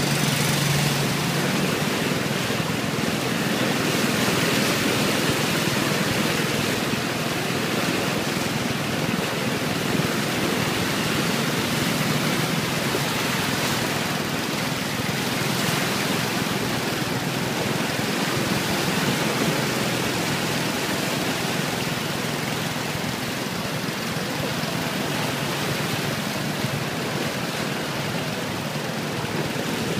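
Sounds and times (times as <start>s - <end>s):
flood water splashing from wheels: 0.0s - 29.9s
motorbike traffic: 0.0s - 29.9s.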